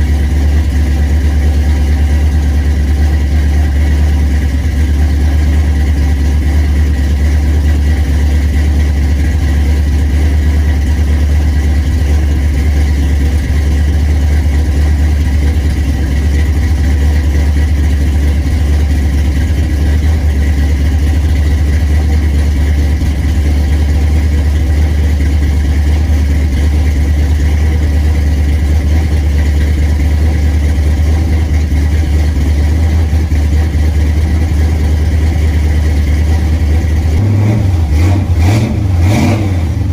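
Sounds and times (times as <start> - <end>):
low-pitched machine drone: 0.0 - 39.9.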